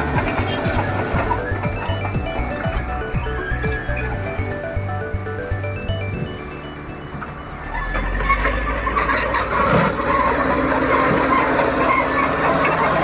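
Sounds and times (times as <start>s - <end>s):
track and metal clatter: 0.0s - 4.5s, 6.1s - 13.0s
bulldozer diesel engine rumbling: 0.0s - 13.0s.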